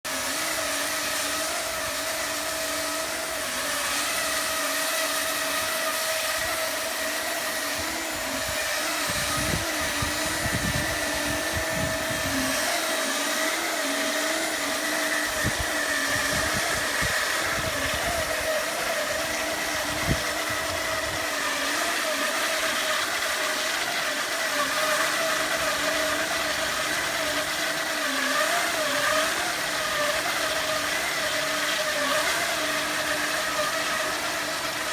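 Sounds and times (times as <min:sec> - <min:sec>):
wire saw machine hum: 0:00.0 - 0:34.9.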